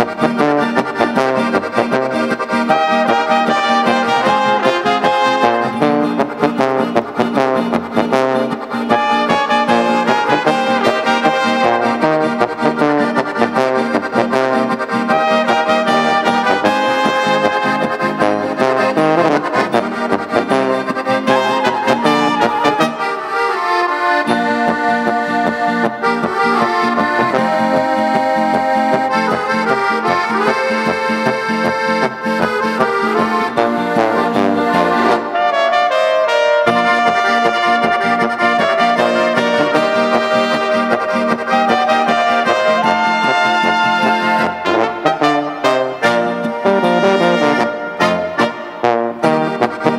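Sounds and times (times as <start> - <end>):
accordion: 0.0 - 49.9
oompah brass band music: 0.0 - 49.9.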